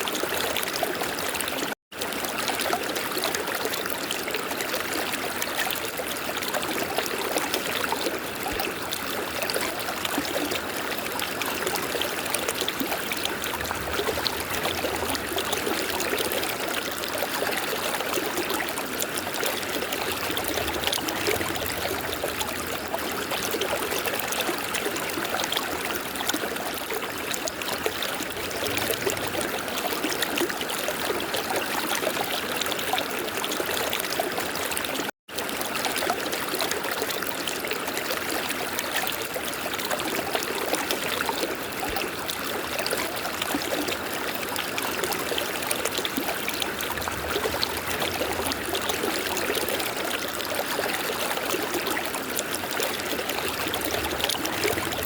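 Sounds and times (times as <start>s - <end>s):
river water splashing over rocks: 0.8s - 55.0s.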